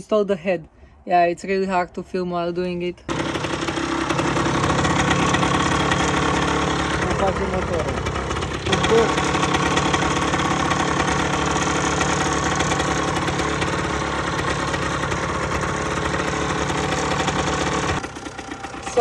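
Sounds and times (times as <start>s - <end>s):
two-stroke engine idling: 3.1s - 19.0s.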